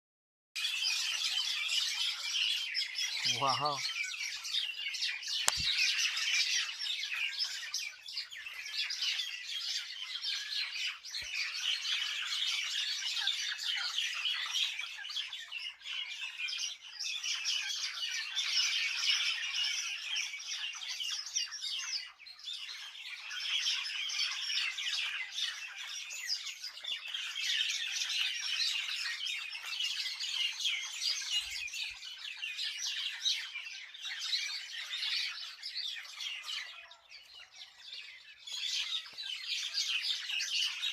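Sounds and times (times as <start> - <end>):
small birds chirping: 0.6 - 40.9.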